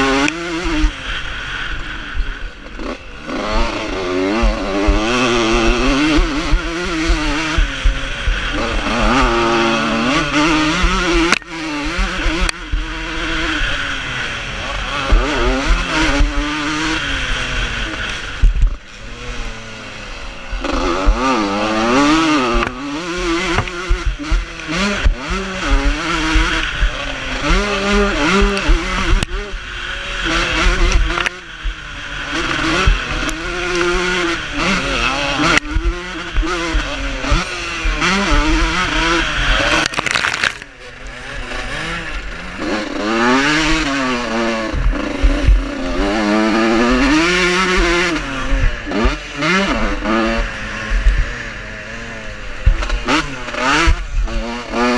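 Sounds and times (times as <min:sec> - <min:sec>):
motocross bikes revving: 0:00.0 - 0:54.9.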